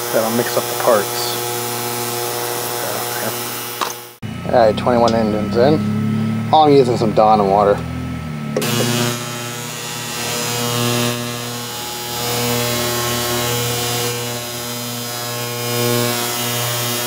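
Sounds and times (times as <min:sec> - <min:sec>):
ultrasonic cleaner buzzing: 0:00.0 - 0:17.0.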